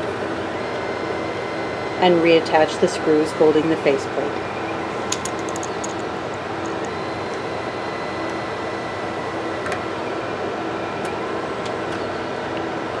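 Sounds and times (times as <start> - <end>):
constant hum: 0.0 - 13.0
cooling fans whirring: 0.0 - 13.0.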